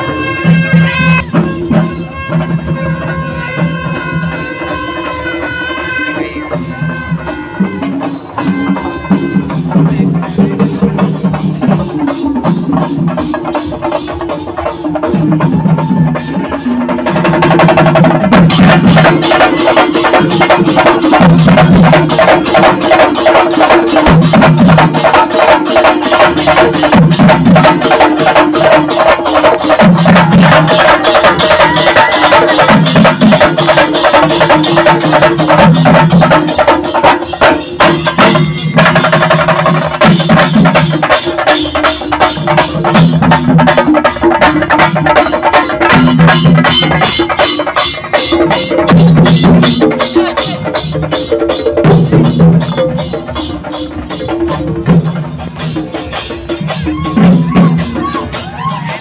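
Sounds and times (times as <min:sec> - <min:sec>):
fast dense drumming: 0:06.6 - 0:59.0.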